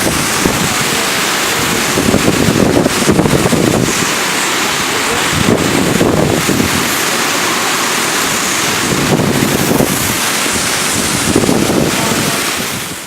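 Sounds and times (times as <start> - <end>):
wind buffeting microphone: 0.0 - 7.2, 7.9 - 13.0
strong wind blowing: 0.0 - 13.0.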